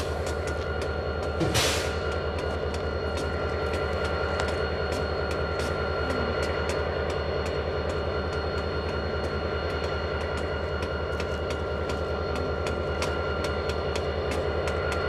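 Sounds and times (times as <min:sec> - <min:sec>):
diesel locomotives idling: 0:00.0 - 0:15.0.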